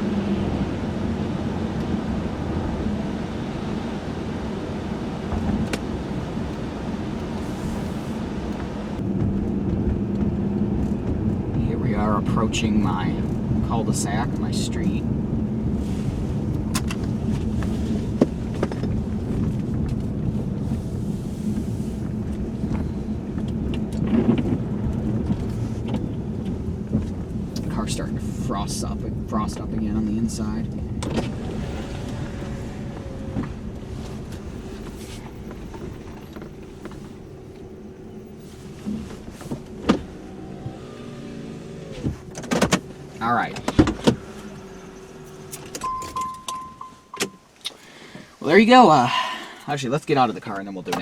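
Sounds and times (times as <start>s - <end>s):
car engine and tyre rumble: 0.0s - 51.0s.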